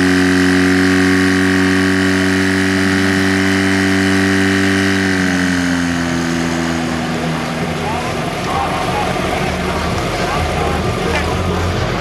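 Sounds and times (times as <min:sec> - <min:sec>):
pump engine running: 0:00.0 - 0:12.0.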